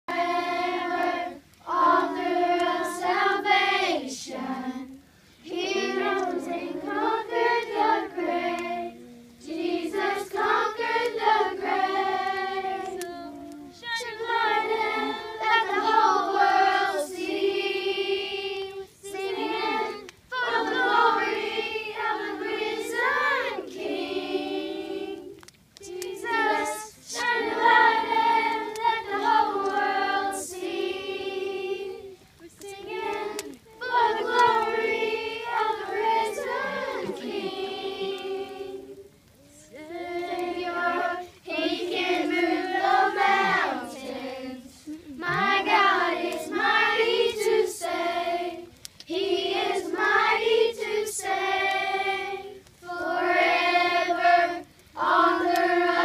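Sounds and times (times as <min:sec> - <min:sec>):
children singing: 0:00.0 - 0:56.0.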